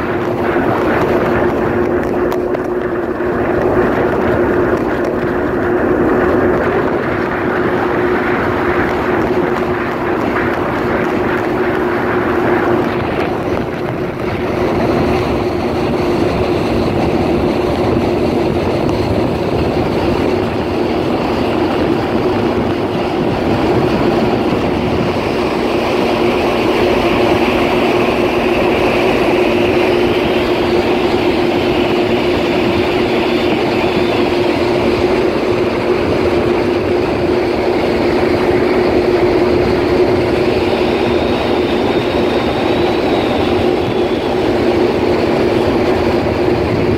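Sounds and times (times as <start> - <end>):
faint high whine: 0.0 - 46.9
jet ski engine drone: 0.0 - 46.9
rushing wind and water: 0.0 - 46.9.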